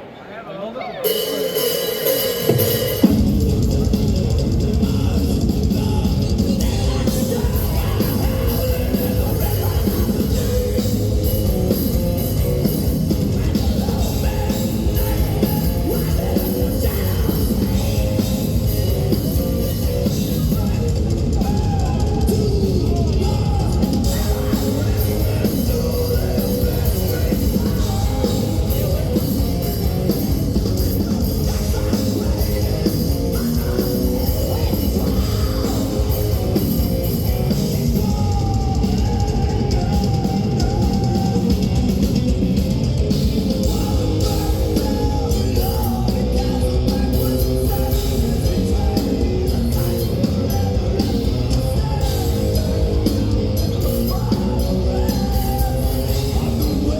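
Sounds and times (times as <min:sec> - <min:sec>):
distorted electric guitars: 0:01.0 - 0:56.9
fast dense drumming: 0:01.1 - 0:56.9.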